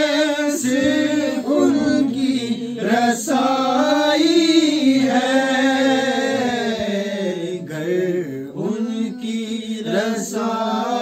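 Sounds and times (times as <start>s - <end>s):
men singing without instruments: 0.0s - 11.0s.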